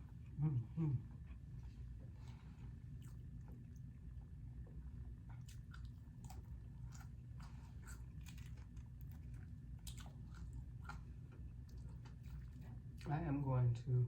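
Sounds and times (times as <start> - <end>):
faint low hum: 0.0 - 14.0
close chewing with wet clicks: 1.0 - 13.4.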